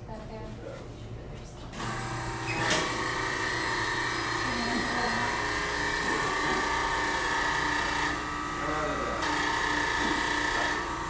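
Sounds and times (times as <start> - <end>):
small electric machine whirring: 1.8 - 11.0.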